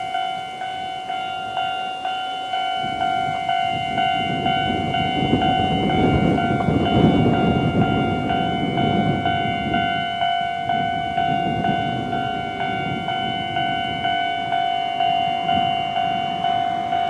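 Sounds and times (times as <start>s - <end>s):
electric train rumbling: 0.0s - 17.0s
level crossing alarm bell: 0.0s - 17.0s.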